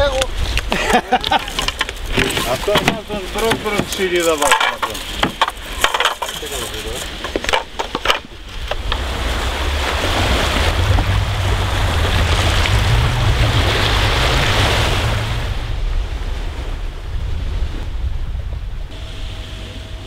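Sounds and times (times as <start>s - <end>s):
waves washing on shore: 0.0s - 20.0s
wind rumbling on microphone: 0.0s - 20.0s.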